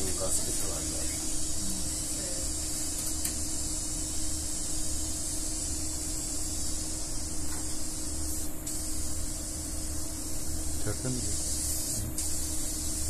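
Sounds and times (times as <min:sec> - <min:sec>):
pulsing low machinery hum: 0:00.0 - 0:13.0
steady hiss: 0:00.0 - 0:13.0.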